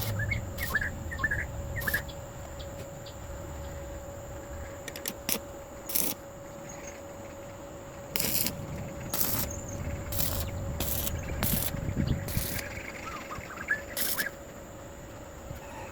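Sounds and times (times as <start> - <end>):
faint hum: 0.0 - 15.9.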